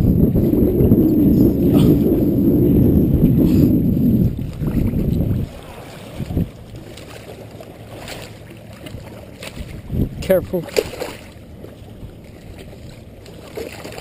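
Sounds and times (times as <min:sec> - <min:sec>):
water lapping: 0:00.0 - 0:14.0
wind buffeting microphone: 0:00.0 - 0:14.0.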